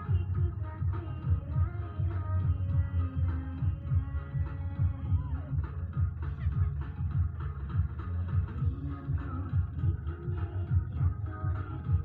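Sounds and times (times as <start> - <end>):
bass-heavy dance music: 0.0 - 12.0.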